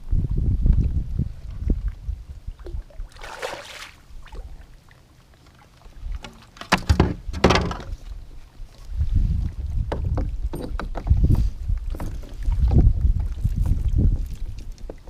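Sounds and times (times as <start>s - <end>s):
water splashing against a kayak: 1.5s - 15.0s.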